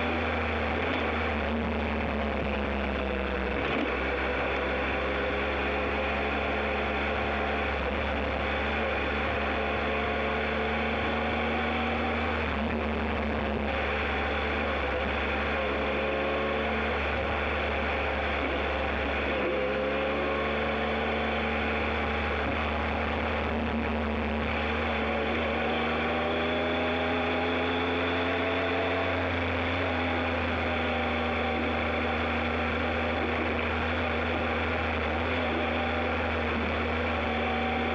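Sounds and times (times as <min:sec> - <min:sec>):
low road rumble: 0:00.0 - 0:37.9
motorcycle engine accelerating: 0:00.0 - 0:37.9.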